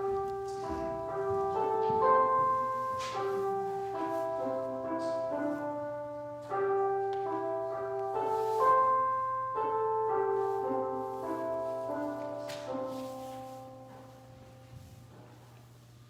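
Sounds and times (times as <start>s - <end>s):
slow keyboard chords: 0.0s - 15.8s.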